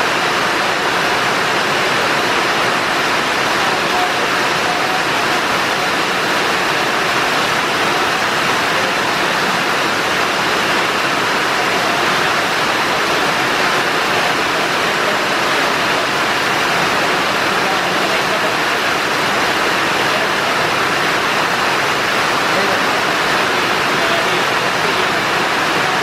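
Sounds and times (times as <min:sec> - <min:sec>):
loud steady rushing noise: 0:00.0 - 0:26.0.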